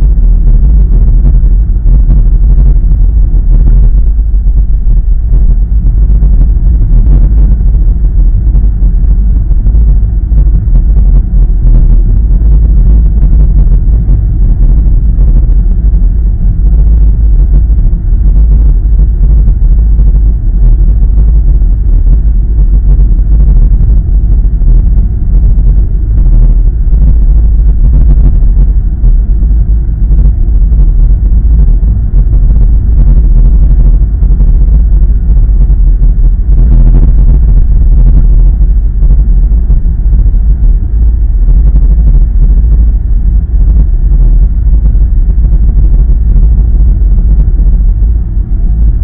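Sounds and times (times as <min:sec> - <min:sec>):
car interior road rumble: 0:00.0 - 0:49.0.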